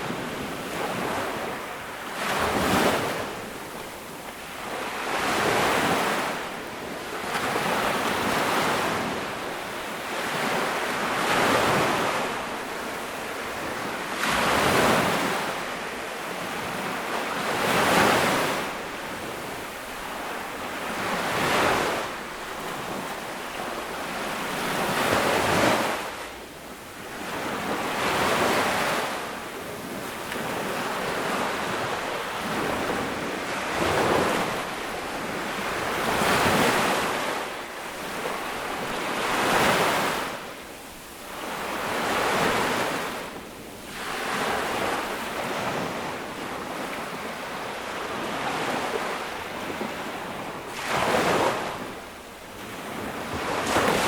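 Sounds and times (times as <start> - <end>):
small waves breaking on sand: 0.0 - 54.0.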